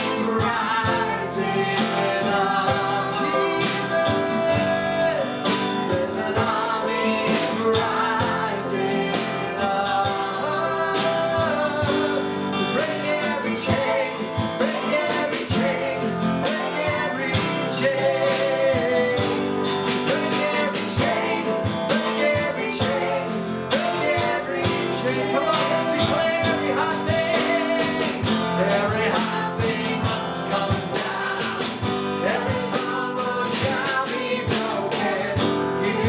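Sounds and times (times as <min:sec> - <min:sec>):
strummed acoustic guitar: 0:00.0 - 0:36.0
worship song singing: 0:00.0 - 0:36.0.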